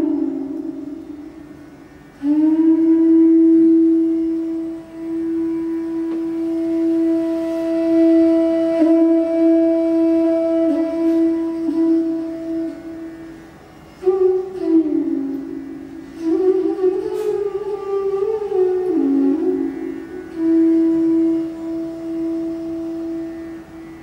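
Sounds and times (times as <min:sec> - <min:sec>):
bamboo flute playing: 0:00.0 - 0:24.0
faint steady drone: 0:00.0 - 0:24.0.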